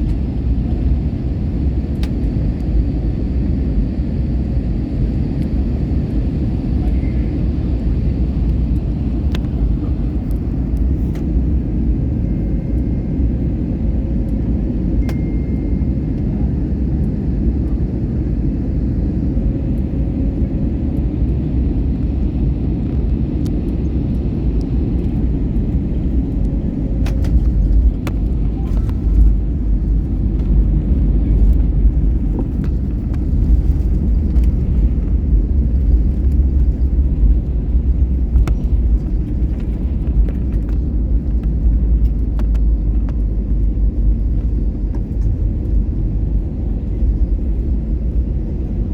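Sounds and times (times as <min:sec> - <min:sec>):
airliner cabin engine rumble: 0:00.0 - 0:48.9.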